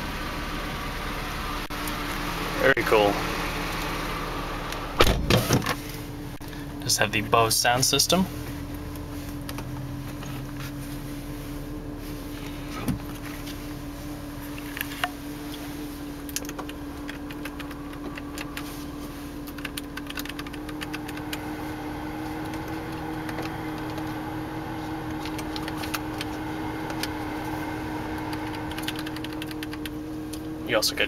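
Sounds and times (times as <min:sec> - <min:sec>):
car engine idling hum: 0:00.0 - 0:31.0.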